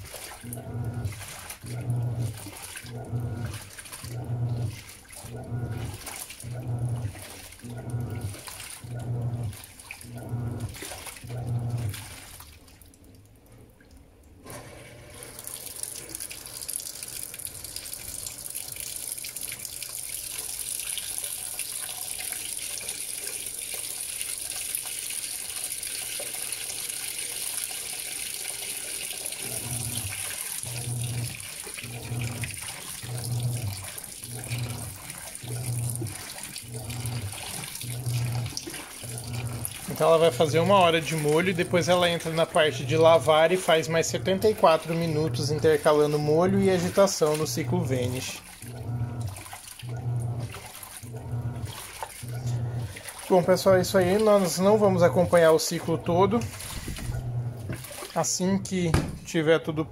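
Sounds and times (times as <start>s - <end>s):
laundry water sloshing: 0.0s - 59.4s
water pouring into drum: 0.0s - 59.4s
washing machine motor humming: 0.0s - 59.9s.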